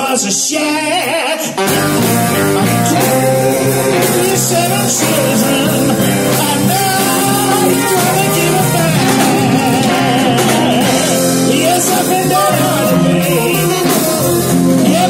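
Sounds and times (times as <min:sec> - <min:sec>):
man singing: 0:00.0 - 0:15.0
electric guitar: 0:01.0 - 0:15.0
keyboards: 0:01.6 - 0:15.0
saxophone: 0:01.6 - 0:15.0.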